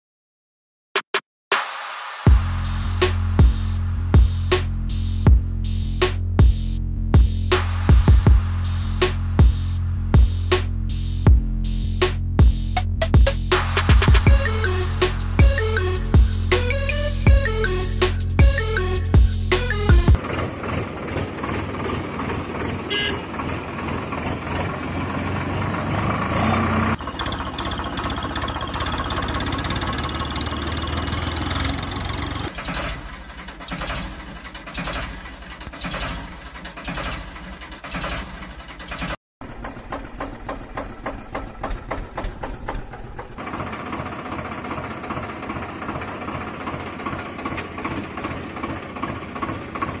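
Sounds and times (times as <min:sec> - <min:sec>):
vehicle engine: 0:02.4 - 0:50.0.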